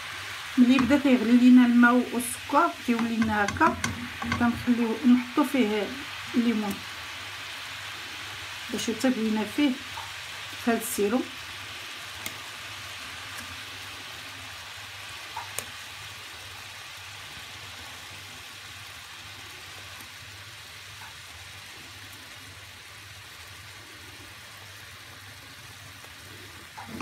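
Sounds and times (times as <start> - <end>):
syrup boiling in a pan: 0.0 - 27.0.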